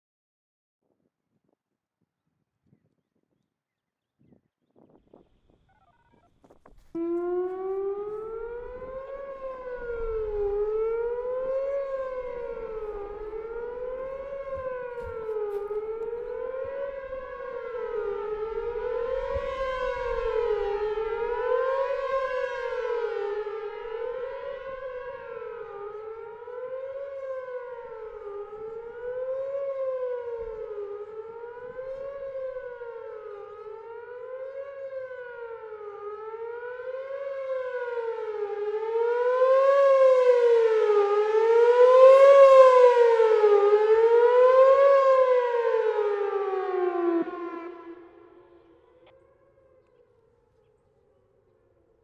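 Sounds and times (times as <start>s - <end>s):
warning siren wailing: 4.8s - 50.6s.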